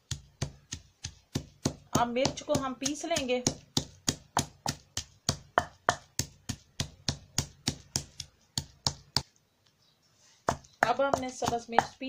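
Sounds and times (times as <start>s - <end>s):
pestle pounding in a mortar: 0.0s - 9.2s, 10.5s - 12.0s.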